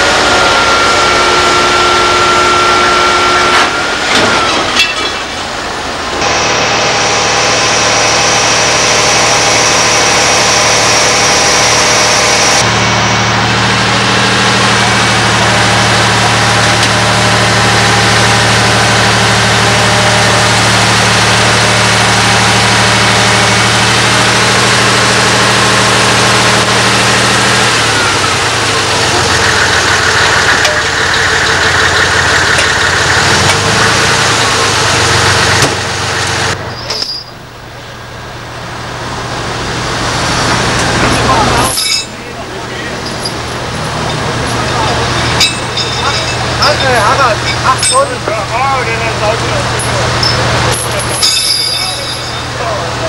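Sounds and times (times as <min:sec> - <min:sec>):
heavy truck diesel engine: 0:00.0 - 0:53.0.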